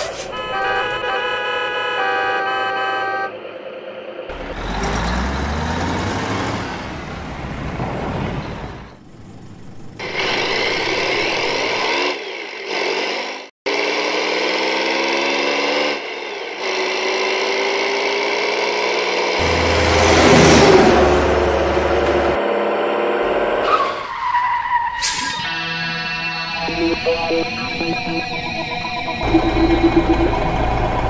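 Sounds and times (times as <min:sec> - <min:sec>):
engines accelerating: 0:03.3 - 0:31.0.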